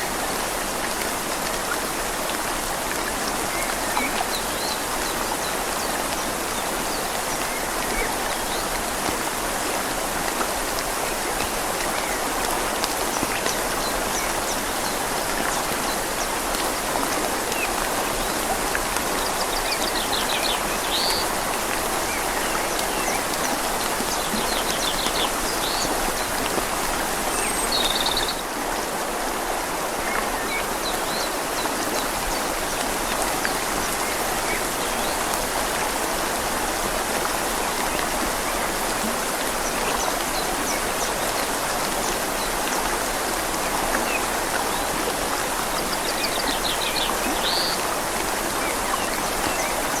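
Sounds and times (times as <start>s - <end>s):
rain falling on leaves: 0.0s - 50.0s
river flowing: 0.0s - 50.0s.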